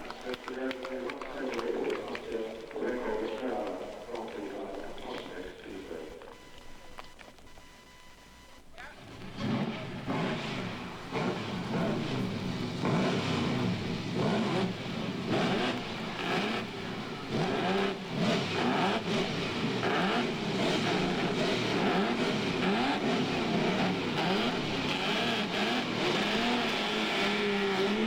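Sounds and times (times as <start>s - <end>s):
racing car engines revving: 0.0s - 28.0s.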